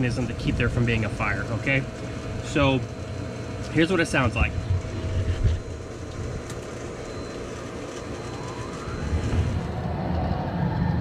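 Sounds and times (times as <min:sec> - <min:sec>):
pool pump hum: 0:00.0 - 0:10.0
exhaust fan starting with whine: 0:00.0 - 0:11.0.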